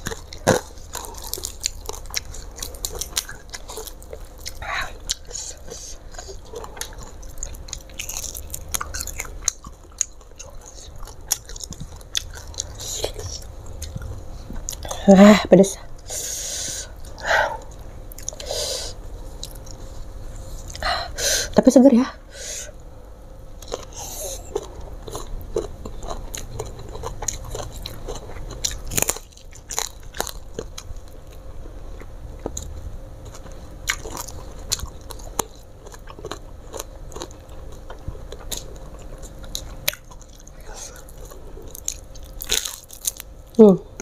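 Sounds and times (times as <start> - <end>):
person chewing crunchy food: 0.0 - 15.0, 15.9 - 20.9, 23.5 - 43.6.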